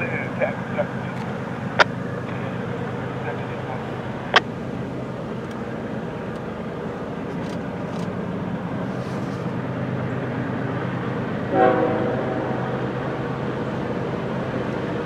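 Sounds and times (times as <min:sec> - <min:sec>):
distant diesel locomotive drone: 0:00.0 - 0:15.0.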